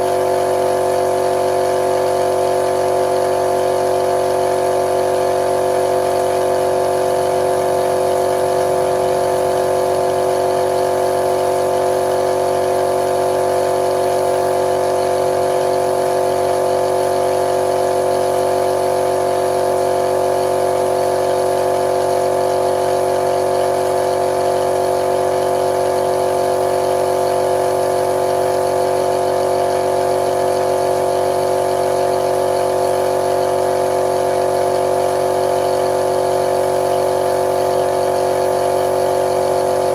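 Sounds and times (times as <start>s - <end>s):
paint sprayer motor hum: 0.0s - 39.9s.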